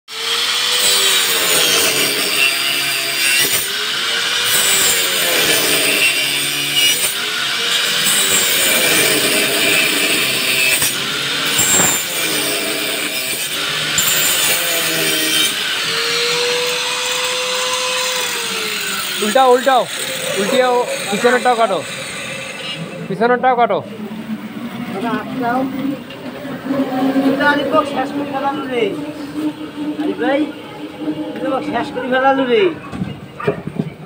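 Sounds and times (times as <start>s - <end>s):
angle grinder cutting wood: 0.1s - 32.8s.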